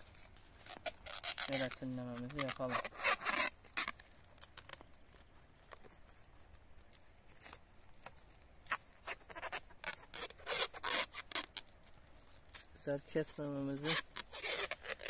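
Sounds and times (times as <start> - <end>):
plastic stretch film crinkling: 0.0 - 15.0.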